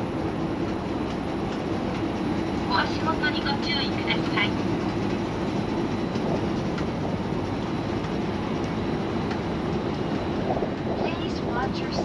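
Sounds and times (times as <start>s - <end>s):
escalator rumbling: 0.0s - 12.0s.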